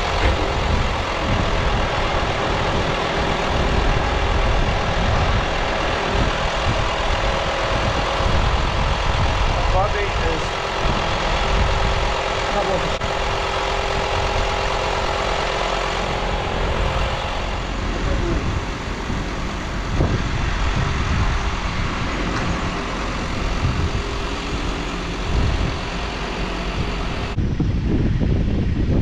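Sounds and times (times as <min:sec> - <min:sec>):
vehicle engine idling: 0:00.0 - 0:27.4
wind buffeting microphone: 0:00.0 - 0:29.0.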